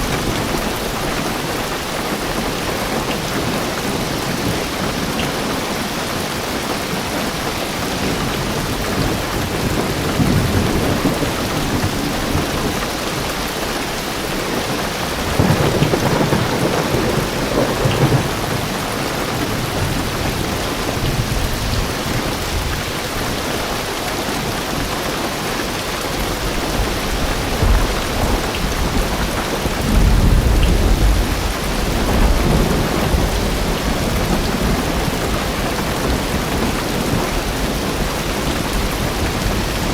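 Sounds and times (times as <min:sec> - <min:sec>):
thunder rumbling: 0:00.0 - 0:23.1, 0:26.3 - 0:39.9
heavy rain on car roof: 0:00.0 - 0:39.9.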